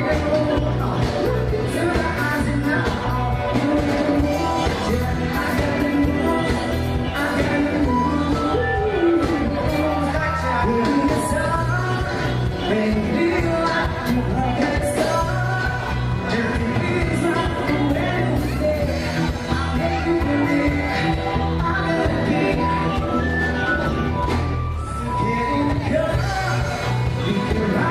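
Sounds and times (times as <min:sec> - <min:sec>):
lead singer: 0:00.0 - 0:27.9
live pop-rock band: 0:00.0 - 0:27.9.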